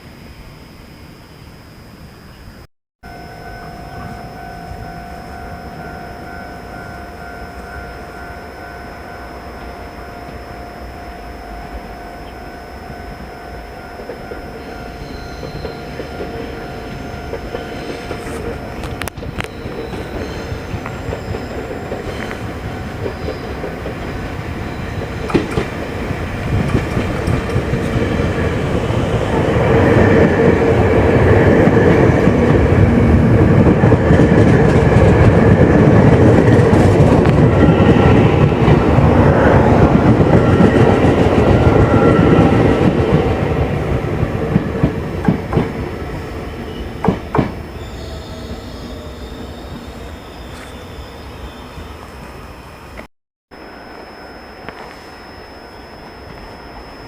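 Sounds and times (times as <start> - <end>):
train approaching: 3.0 - 57.0.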